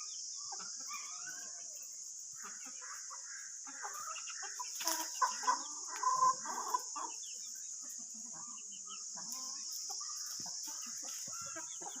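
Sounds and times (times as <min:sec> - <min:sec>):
chickens clucking: 0:00.0 - 0:12.0
steady high hiss: 0:00.0 - 0:12.0.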